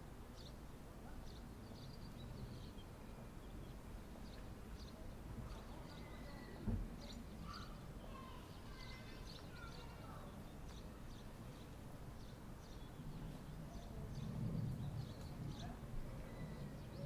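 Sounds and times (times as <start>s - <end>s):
low outdoor rumble: 0.0s - 17.0s
small birds chirping and whistling: 1.3s - 17.0s.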